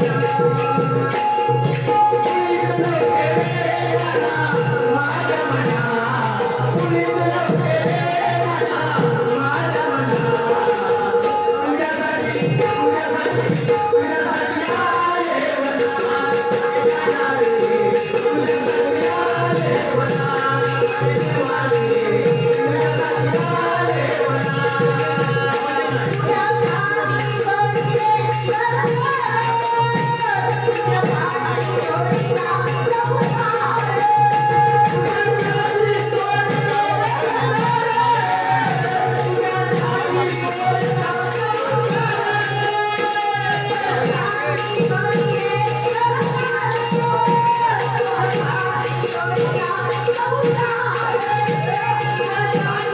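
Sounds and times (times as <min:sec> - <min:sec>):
group singing devotional song: 0:00.0 - 0:52.9
jingling percussion beat: 0:00.0 - 0:52.9.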